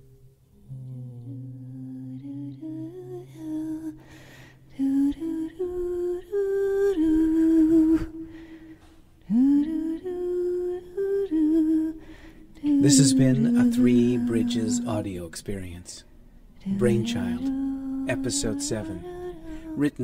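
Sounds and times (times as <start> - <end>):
person humming a slow tune: 0.0 - 15.8, 16.6 - 20.0
faint low drone: 0.0 - 20.0.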